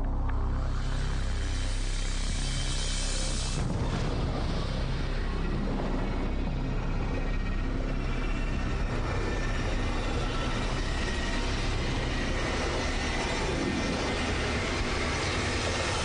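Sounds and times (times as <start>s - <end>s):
dense low rumble: 0.0s - 16.0s.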